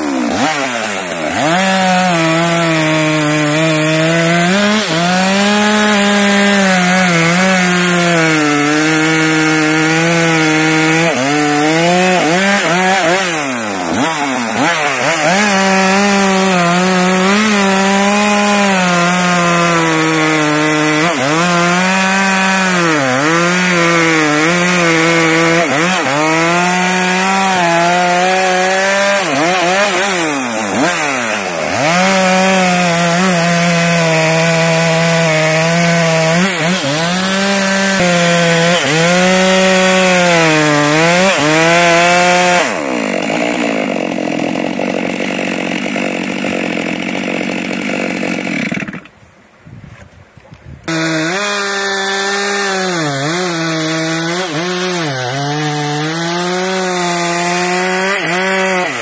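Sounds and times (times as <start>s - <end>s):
chainsaw cutting log: 0.0s - 49.3s, 50.8s - 59.0s.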